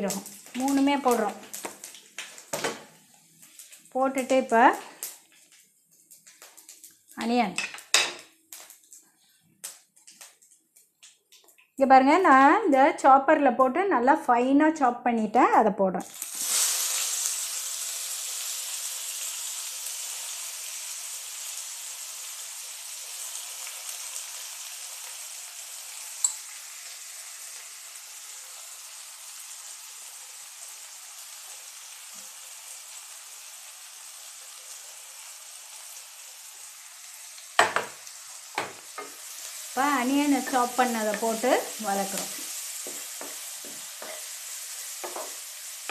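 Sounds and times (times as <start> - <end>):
onions sizzling in hot oil: 0.0 - 9.0, 16.0 - 45.9.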